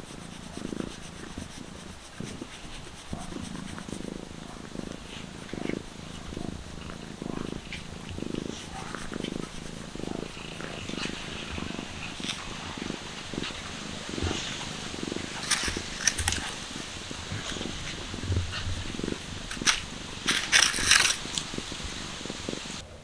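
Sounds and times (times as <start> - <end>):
rustling of dry grass: 0.0 - 22.8
cat purring: 0.0 - 23.0.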